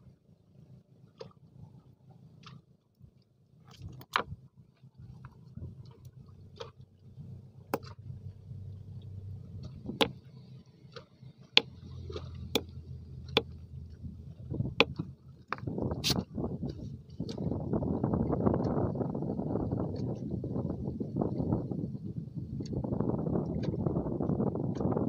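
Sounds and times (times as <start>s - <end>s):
steady low rumble: 3.8s - 25.0s.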